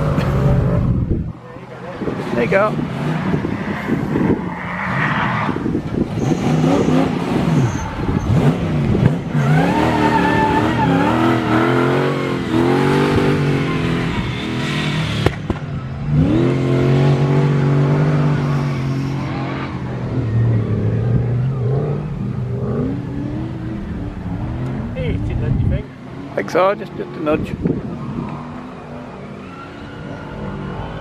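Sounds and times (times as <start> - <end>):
buggy engine revving: 0.0 - 28.6.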